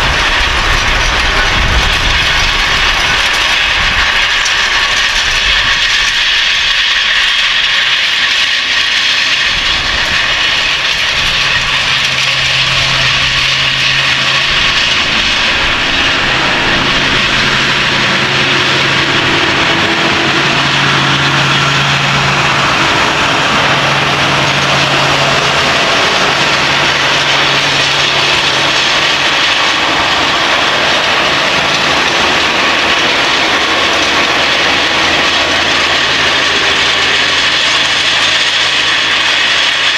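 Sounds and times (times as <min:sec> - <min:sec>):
low engine hum: 0:00.0 - 0:06.8, 0:08.8 - 0:39.9
loud rushing noise: 0:00.0 - 0:39.9.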